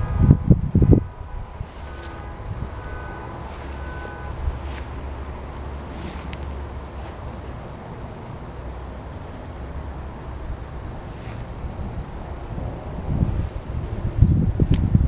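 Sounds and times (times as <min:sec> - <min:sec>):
insects trilling: 0:00.0 - 0:15.0
leaves rustling: 0:01.3 - 0:15.0.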